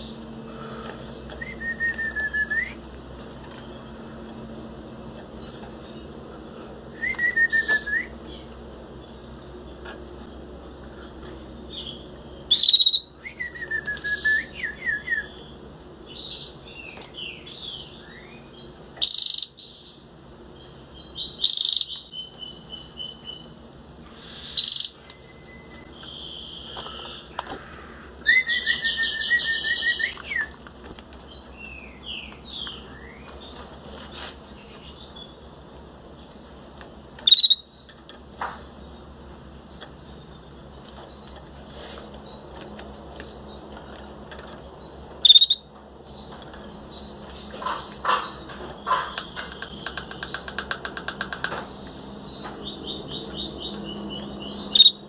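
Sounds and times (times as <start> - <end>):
canary chicks chirping: 0.0 - 55.0.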